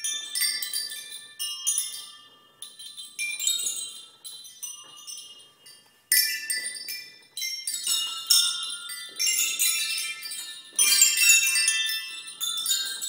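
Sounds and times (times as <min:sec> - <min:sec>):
chime tubes ringing: 0:00.0 - 0:13.0.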